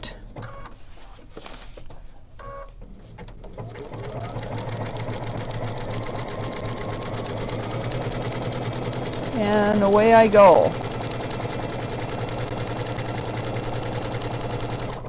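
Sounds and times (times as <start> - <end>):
sewing machine stitching: 2.8 - 15.0.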